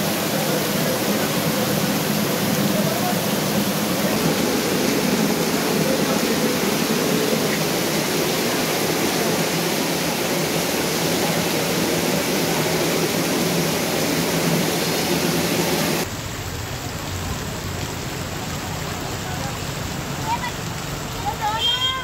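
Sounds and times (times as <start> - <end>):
heavy rain on flooded street: 0.0 - 22.0.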